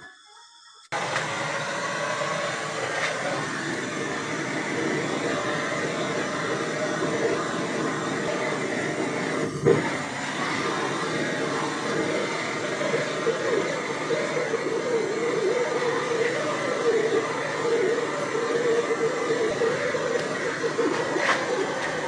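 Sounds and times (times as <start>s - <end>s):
gas torch burning: 1.0s - 22.0s.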